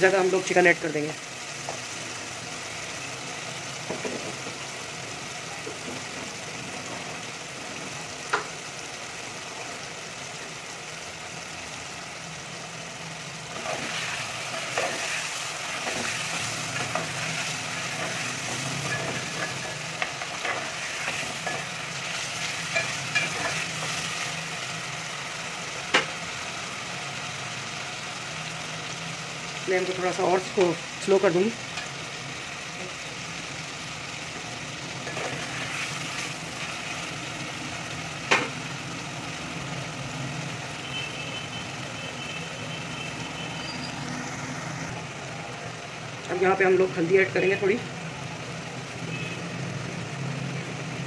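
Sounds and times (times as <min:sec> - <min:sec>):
chicken sizzling in a pot: 0:00.0 - 0:51.0.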